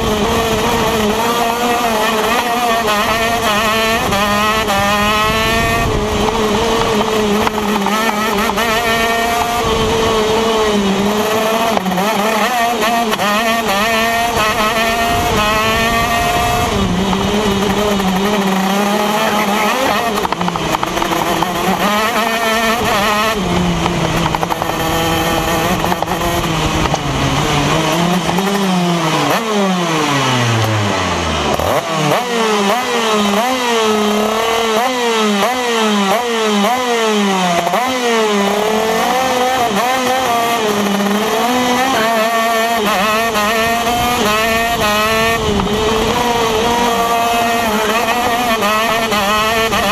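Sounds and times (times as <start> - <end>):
kart engine revving: 0.0 - 49.9.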